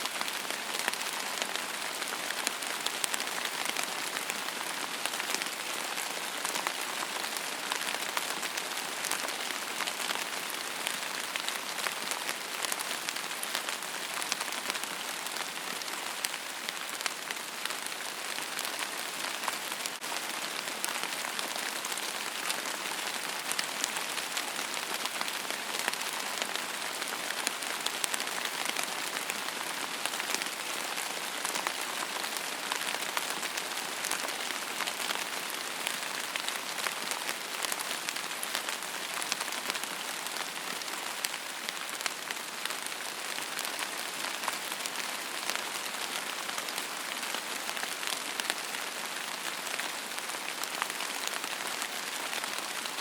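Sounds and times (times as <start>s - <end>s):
steady rain on a surface: 0.0s - 53.0s.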